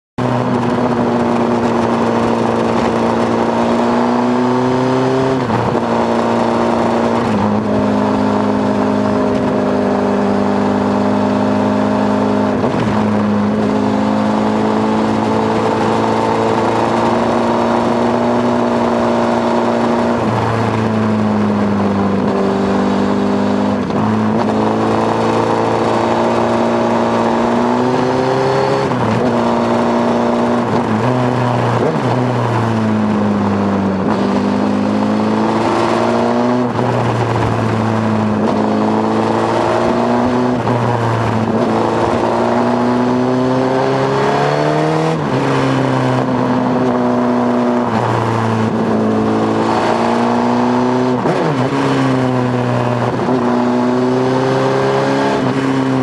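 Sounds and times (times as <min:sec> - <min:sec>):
motorcycle engine at speed: 0:00.2 - 0:56.0.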